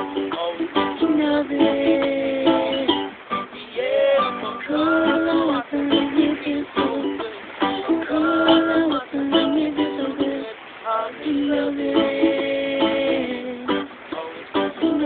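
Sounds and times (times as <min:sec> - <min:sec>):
ukulele and guitar jam: 0:00.0 - 0:15.0.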